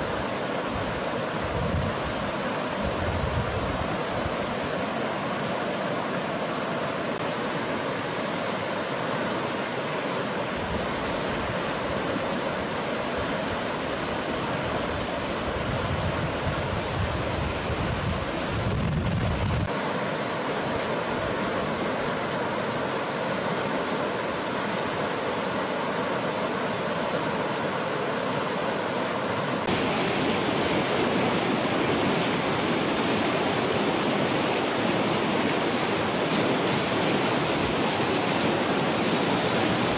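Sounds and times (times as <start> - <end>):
river rapids roaring over rocks: 0.0 - 39.9.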